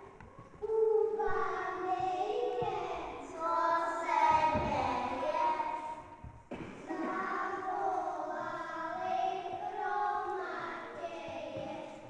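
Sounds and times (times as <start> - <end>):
children singing: 0.6 - 12.0.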